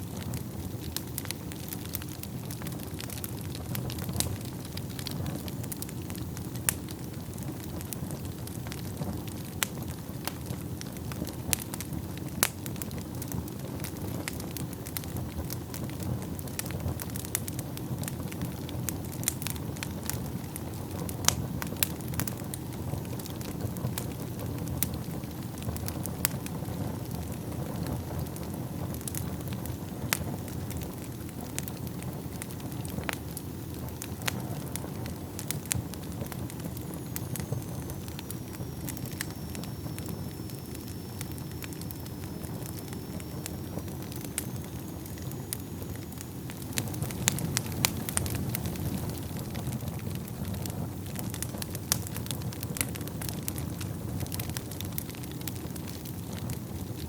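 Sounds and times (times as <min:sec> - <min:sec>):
fire crackling and popping: 0:00.0 - 0:57.0
wood fire burning: 0:00.0 - 0:57.0.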